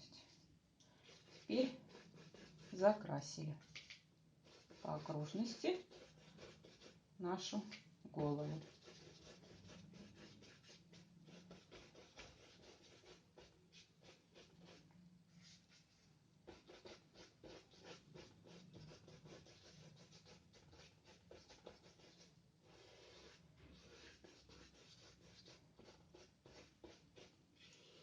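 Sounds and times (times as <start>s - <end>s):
paintbrush strokes on paper: 0.0s - 28.0s.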